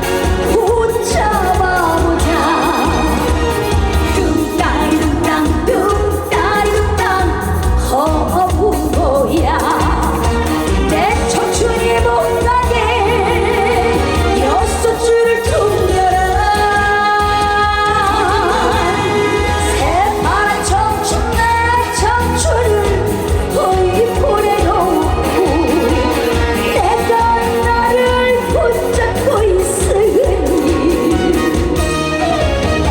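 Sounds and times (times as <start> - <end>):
band backing track with heavy bass: 0.0 - 32.9
woman singing with vibrato: 0.0 - 32.9.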